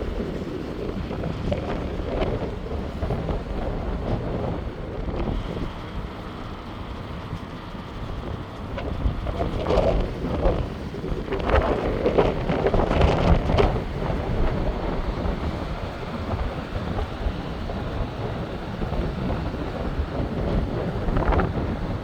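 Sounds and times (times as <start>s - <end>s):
sea waves washing ashore: 0.0s - 22.0s
wind buffeting microphone: 0.0s - 22.0s.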